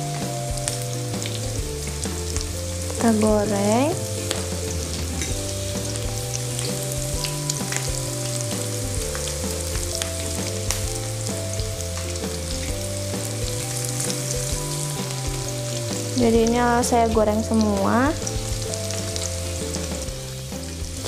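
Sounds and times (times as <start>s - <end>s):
onion rings deep-frying with pops: 0.0s - 21.0s.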